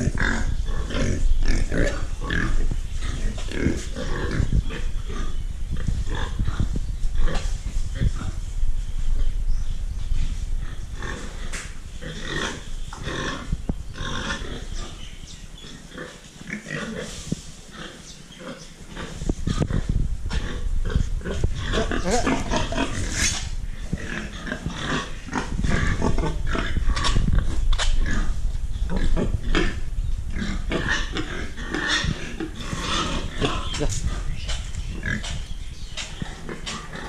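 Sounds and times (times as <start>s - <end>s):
pigs grunting: 0.0s - 8.4s, 10.6s - 37.0s.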